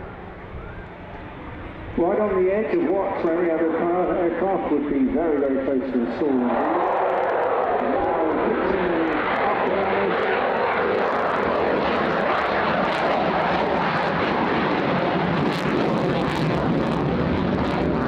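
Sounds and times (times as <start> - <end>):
fighter jet engines roaring: 0.0 - 18.0.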